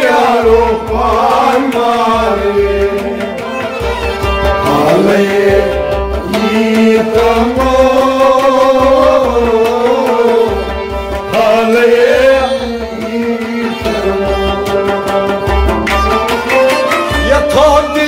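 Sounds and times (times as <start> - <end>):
man singing: 0.0 - 3.4, 4.6 - 15.2, 17.1 - 18.0
harmonium chords: 0.0 - 18.0.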